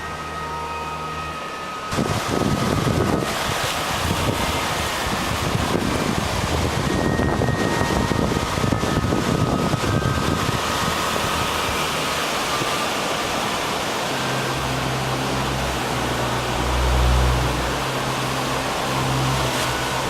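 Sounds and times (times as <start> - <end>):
sea washing: 0.0 - 20.0.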